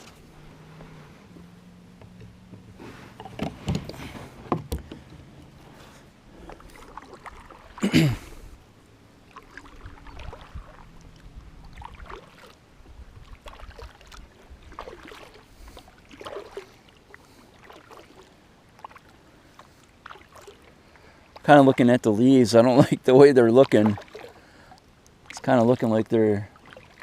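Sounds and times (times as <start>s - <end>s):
paddle splashing water: 0.0s - 27.0s.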